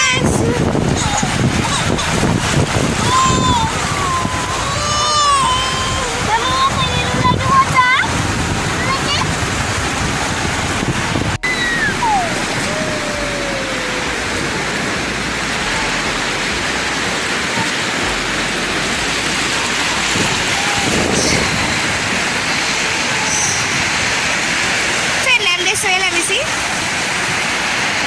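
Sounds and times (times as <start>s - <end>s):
small waves washing on shore: 0.0s - 28.0s.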